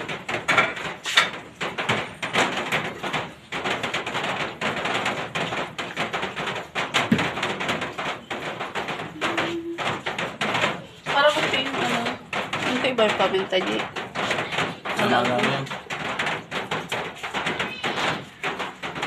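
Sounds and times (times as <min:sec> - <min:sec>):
knock: 0:00.0 - 0:19.0.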